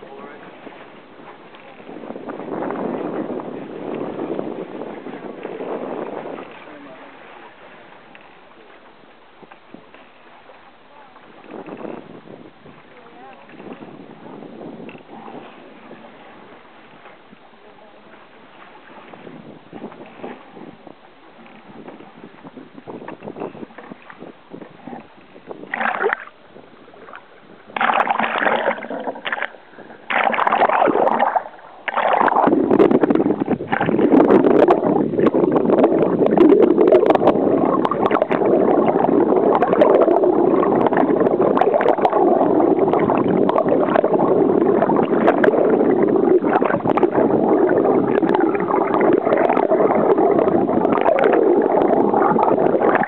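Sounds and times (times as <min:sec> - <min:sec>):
muffled underwater rush: 0:00.0 - 0:53.0
seawater splashing: 0:00.0 - 0:53.0.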